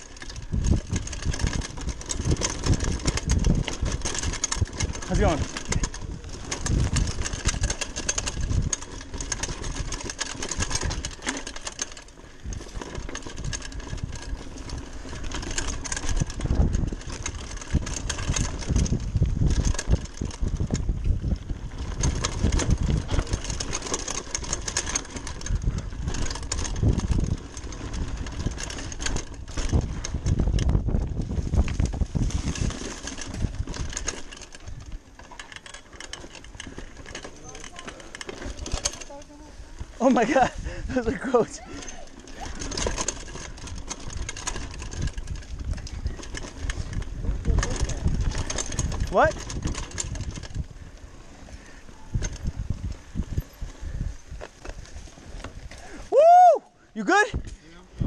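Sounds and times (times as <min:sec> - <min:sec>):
wind rumble on microphone: 0:00.0 - 0:35.2, 0:38.2 - 0:58.0
tyres crunching over dirt: 0:00.0 - 0:56.1
bike frame rattling and knocking: 0:00.0 - 0:57.6.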